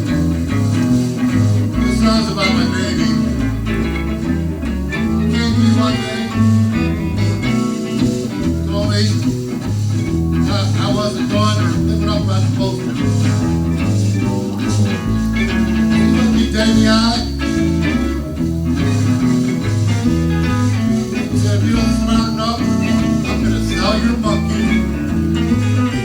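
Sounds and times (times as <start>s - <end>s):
blues guitar: 0.0s - 26.0s
stepping bass line: 0.0s - 26.0s.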